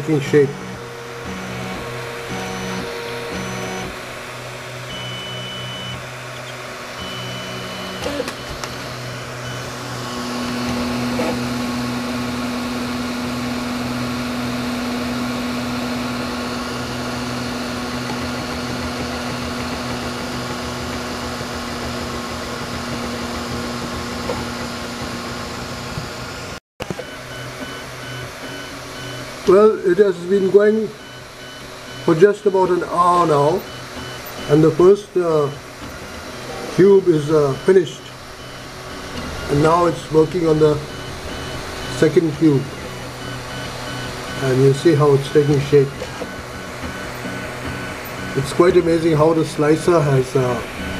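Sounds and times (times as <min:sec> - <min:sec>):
stepper motors whining: 0:00.0 - 0:50.9.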